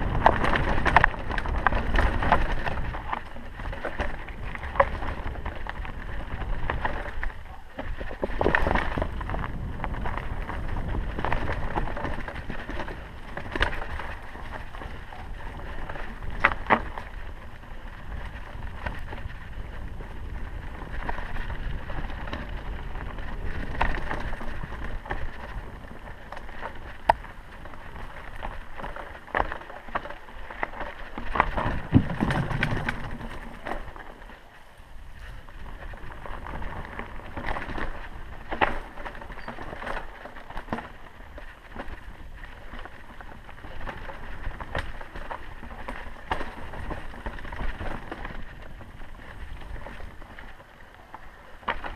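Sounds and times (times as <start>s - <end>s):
bike knocking and rattling: 0.0s - 51.9s
rumble of tyres and wind: 0.0s - 51.9s.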